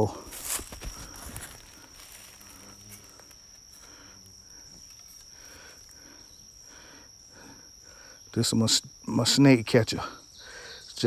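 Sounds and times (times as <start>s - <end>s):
insects droning: 0.0s - 11.0s
pulsing insect call: 0.0s - 11.0s.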